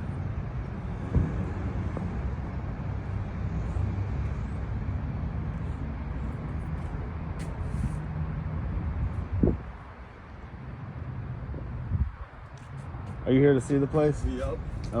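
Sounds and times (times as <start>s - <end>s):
low rumble of motor vehicles: 0.0s - 15.0s.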